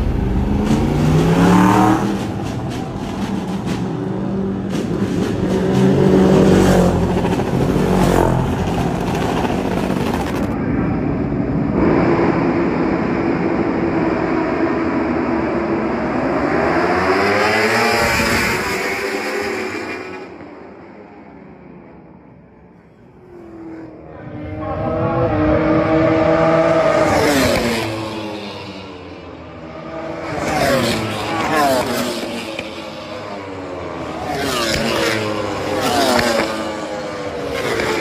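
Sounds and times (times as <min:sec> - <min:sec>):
motorcycle engines revving high: 0:00.0 - 0:21.4, 0:23.1 - 0:38.0.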